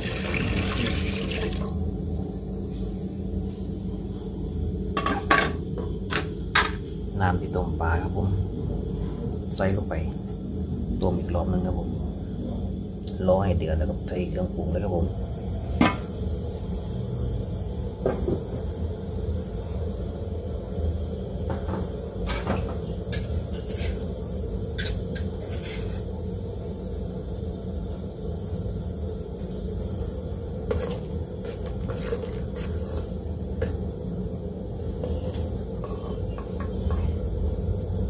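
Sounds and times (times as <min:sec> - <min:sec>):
pot of stock heating rumble: 0:00.0 - 0:38.0.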